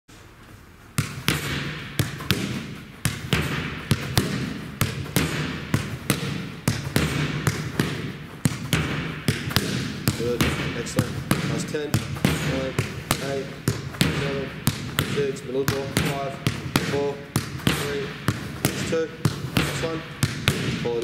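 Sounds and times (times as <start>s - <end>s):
soccer ball thuds echoing: 0.9s - 21.0s.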